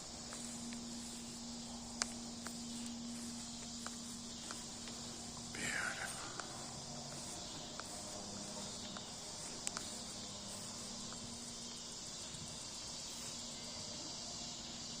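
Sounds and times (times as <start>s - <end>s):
cicadas singing: 0.0s - 15.0s.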